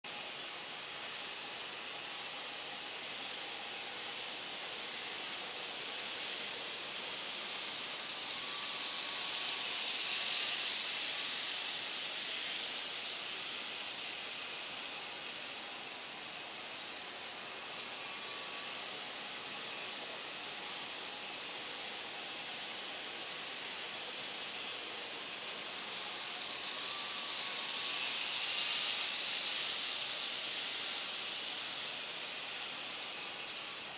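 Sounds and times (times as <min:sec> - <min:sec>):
model train motors and wheels: 0:00.0 - 0:33.9
faint wavering whine: 0:00.1 - 0:33.9.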